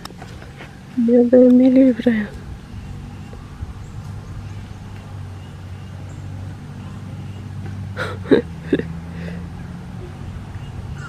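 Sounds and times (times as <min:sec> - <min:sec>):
low mechanical motor hum: 0:00.0 - 0:11.0.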